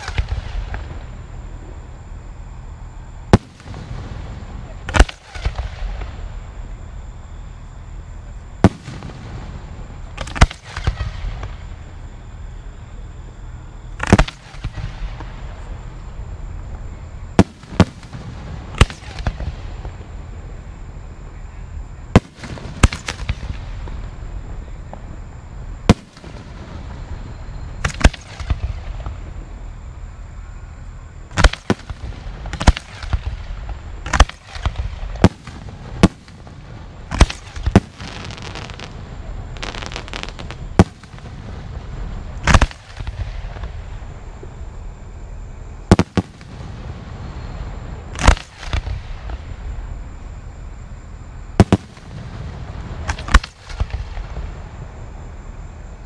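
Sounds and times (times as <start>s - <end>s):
fireworks booming: 0.0s - 56.0s.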